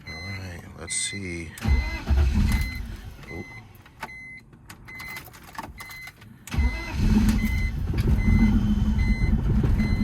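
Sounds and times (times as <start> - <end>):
dashboard warning chime: 0.0 - 10.0
car engine cranking and starting: 1.6 - 10.0.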